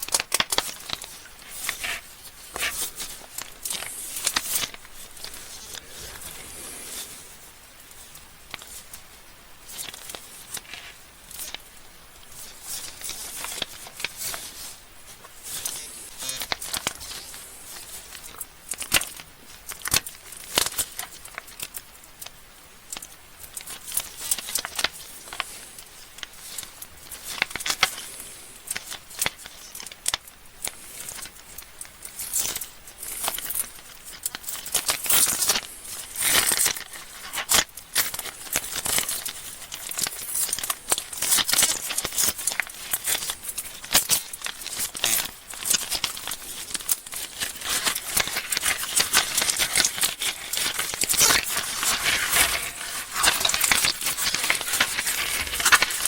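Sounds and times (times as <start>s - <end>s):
plastic wrappers crinkling: 0.0s - 56.0s.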